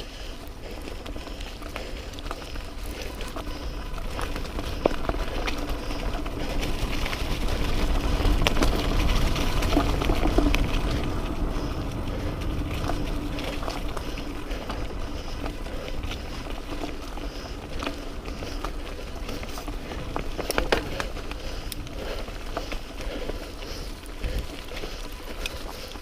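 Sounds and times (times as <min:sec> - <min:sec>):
bike rattling clicks: 0:00.0 - 0:26.0
bike tyres on dirt trail: 0:00.0 - 0:26.0
wind rumbling on microphone: 0:00.0 - 0:26.0.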